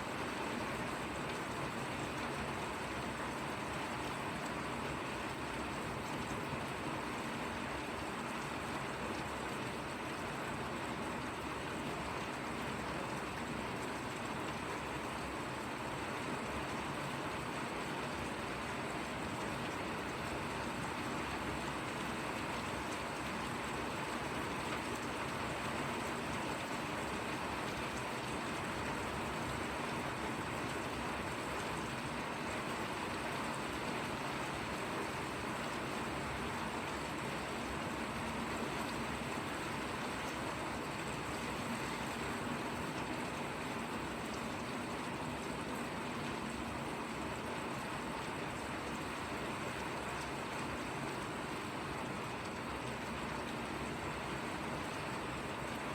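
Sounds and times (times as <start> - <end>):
light rain falling: 0.0 - 55.9.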